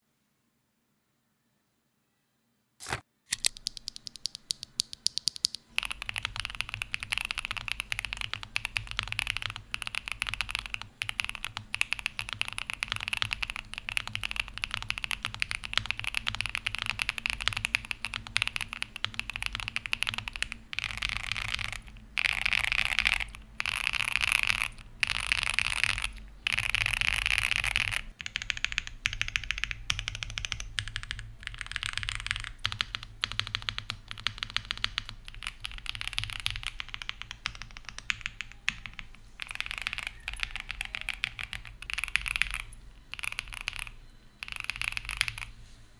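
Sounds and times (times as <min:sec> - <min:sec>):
mechanical keyboard typing: 0:02.8 - 0:45.6.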